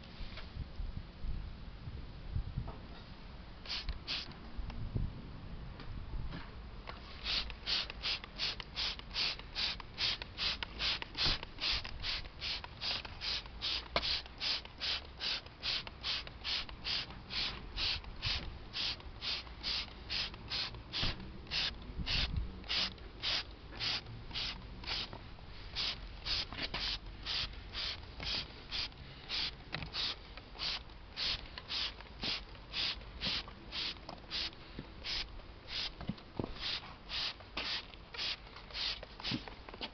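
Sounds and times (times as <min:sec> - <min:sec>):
trigger sprayer hissing squirts: 0:03.7 - 0:04.3, 0:07.2 - 0:36.0, 0:36.6 - 0:39.4.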